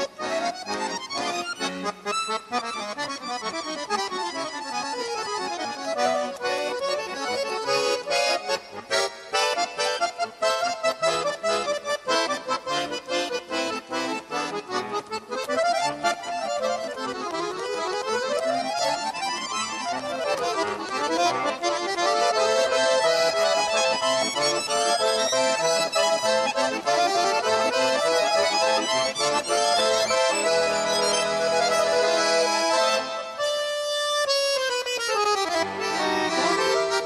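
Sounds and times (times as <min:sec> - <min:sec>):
accordion music: 0:00.0 - 0:37.0.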